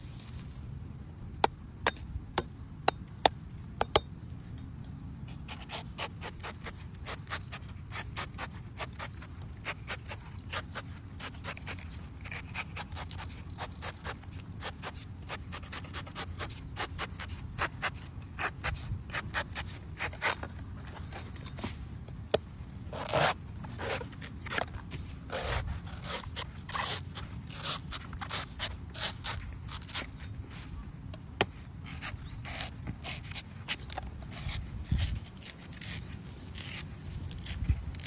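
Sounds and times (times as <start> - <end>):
knife scraping coconut: 5.3 - 21.8, 22.8 - 30.7, 31.4 - 38.0.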